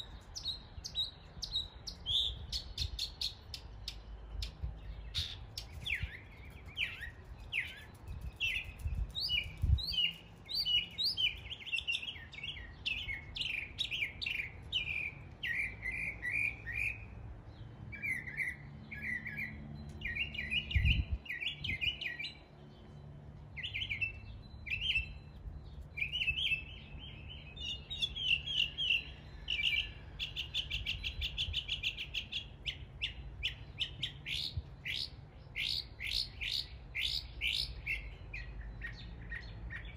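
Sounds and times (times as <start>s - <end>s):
mockingbird singing: 0.0s - 39.9s.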